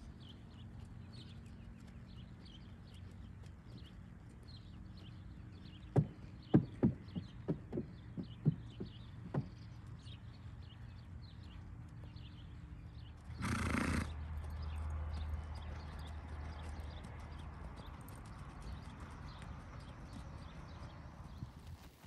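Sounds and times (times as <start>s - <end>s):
hoofbeats trotting on sand: 0.0s - 22.0s.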